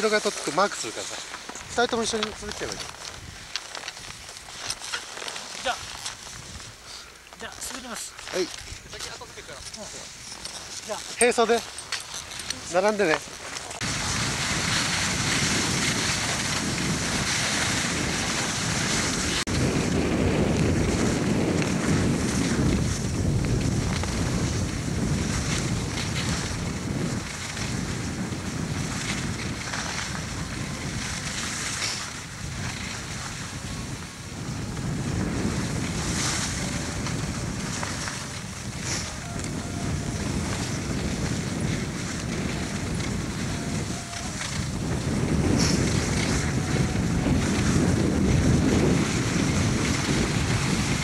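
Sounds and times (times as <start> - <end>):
skis sliding on snow: 0.0 - 51.0
wind buffeting microphone: 0.0 - 51.0.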